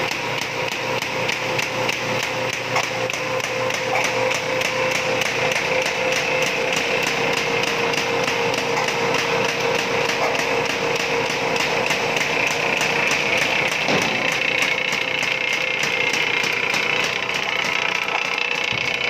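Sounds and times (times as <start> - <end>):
cutting knife clacking rhythmically: 0.0 - 19.0
steady machine hum: 0.0 - 19.0.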